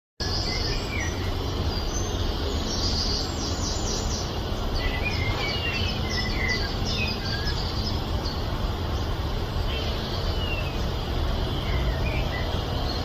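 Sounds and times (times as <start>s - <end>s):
birds chirping and whistling: 0.2s - 13.0s.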